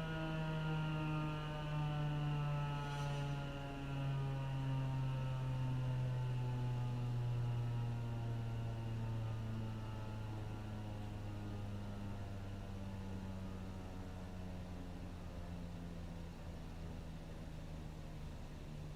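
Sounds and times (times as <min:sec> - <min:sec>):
warning siren winding down: 0:00.0 - 0:18.3.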